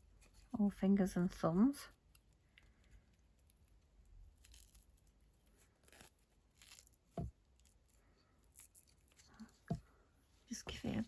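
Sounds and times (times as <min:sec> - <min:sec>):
hands rustling tying thread: 0:02.0 - 0:11.0.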